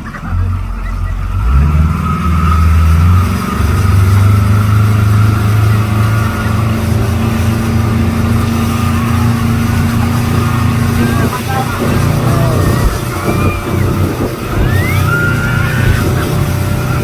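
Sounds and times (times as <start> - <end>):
speedboat engine running: 0.0 - 17.0.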